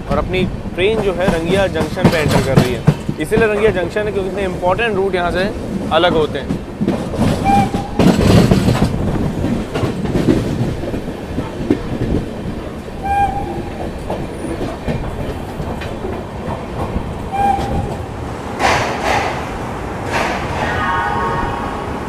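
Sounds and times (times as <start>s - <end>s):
train wheels knocking over rail joints: 0.0s - 20.6s.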